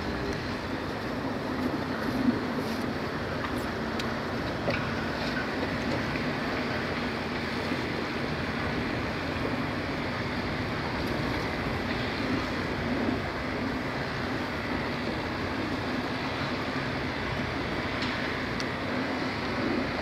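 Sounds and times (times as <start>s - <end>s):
boat engine drone: 0.0s - 20.0s
water wash: 0.0s - 20.0s.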